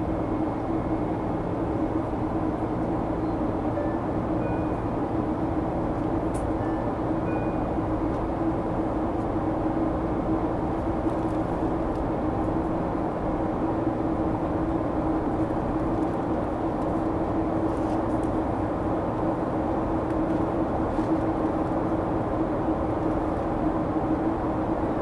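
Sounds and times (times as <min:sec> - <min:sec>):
airliner cabin drone: 0:00.0 - 0:25.0.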